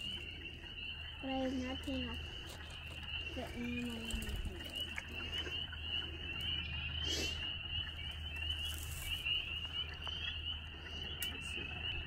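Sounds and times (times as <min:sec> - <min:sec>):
frogs trilling chorus: 0:00.0 - 0:12.0.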